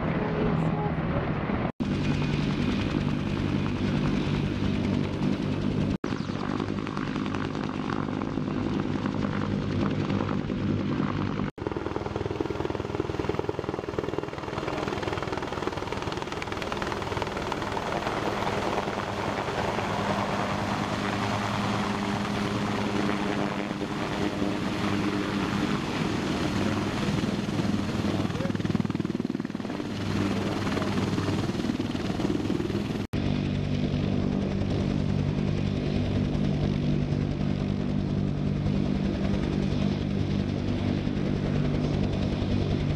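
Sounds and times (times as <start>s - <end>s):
helicopter rotor and engines: 0.0s - 42.9s.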